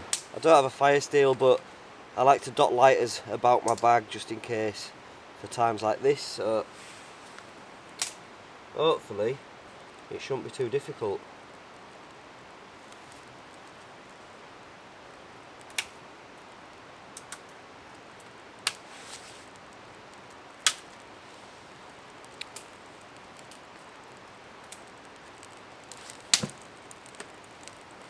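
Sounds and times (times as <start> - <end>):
faint steady hiss: 0.0 - 28.0
fire snapping and crackling: 0.0 - 28.0.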